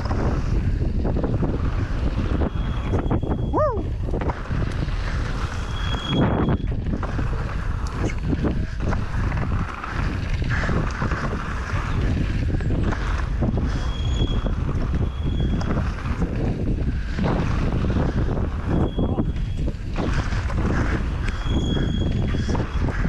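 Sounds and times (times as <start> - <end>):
wind rushing over microphone: 0.0 - 23.0
bike knocks and rattles: 4.0 - 23.0.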